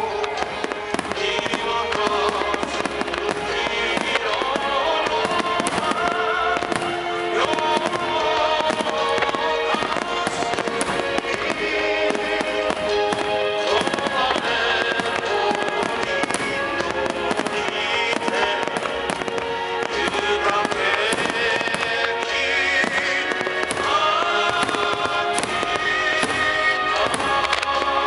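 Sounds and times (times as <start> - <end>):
firework crackling: 0.0 - 28.0
firework shells bursting: 0.0 - 28.0
music: 0.0 - 28.0.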